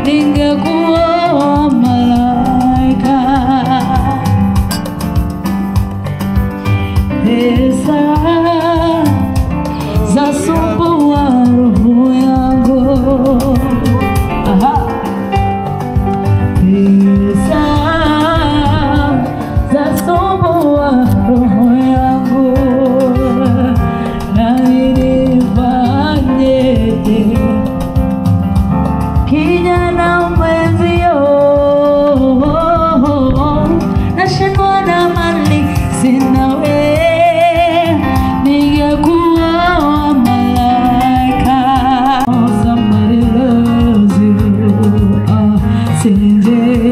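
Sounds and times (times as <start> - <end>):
woman singing with vibrato: 0.0 - 4.6, 7.1 - 15.4, 16.6 - 27.9, 29.3 - 46.9
instrumental accompaniment: 0.0 - 46.9.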